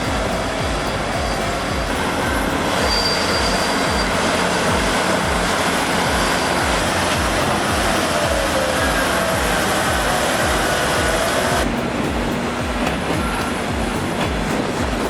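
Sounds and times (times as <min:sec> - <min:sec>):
background music with low beat: 0:00.0 - 0:15.0
large diesel machine running: 0:00.0 - 0:15.0.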